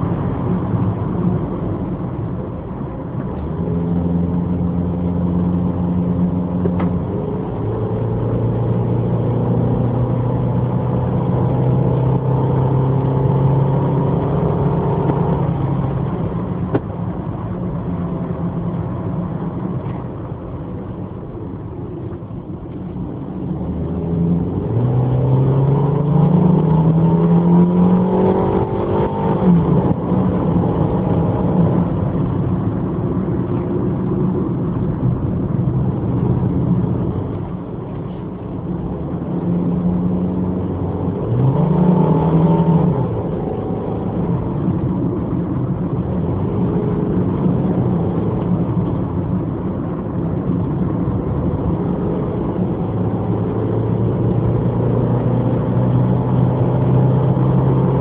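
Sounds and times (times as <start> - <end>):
car engine accelerating: 0.0 - 21.5, 22.2 - 58.0
tyre and road noise: 0.0 - 58.0.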